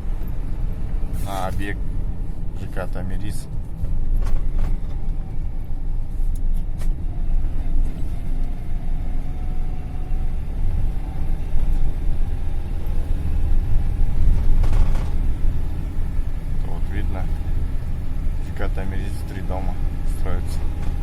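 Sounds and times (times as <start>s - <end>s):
van engine and road rumble: 0.0s - 21.0s.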